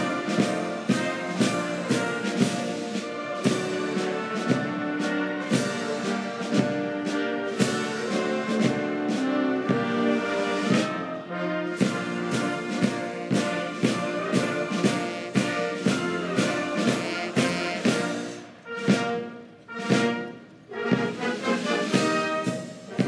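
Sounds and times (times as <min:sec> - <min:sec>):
brass band playing a march: 0:00.0 - 0:23.0.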